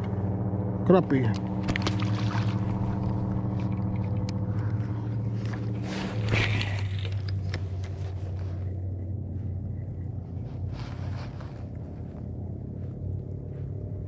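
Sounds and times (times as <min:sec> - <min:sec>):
electric trolling motor hum: 0:00.0 - 0:14.0.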